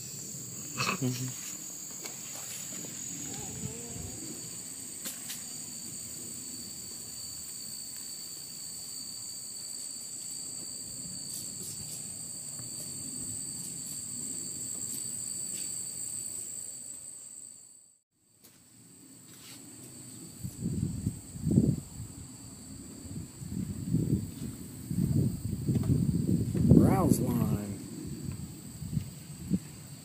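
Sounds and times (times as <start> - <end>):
insects chirping chorus: 0.0 - 30.0.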